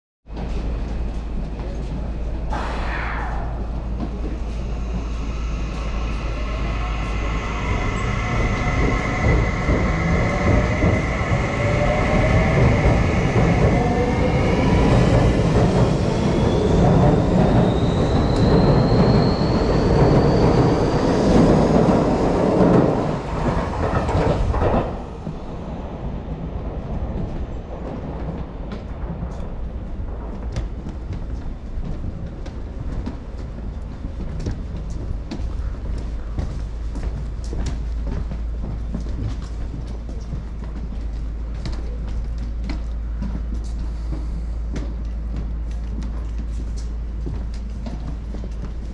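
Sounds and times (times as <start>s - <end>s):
wheel-on-rail noise: 0.3s - 48.9s.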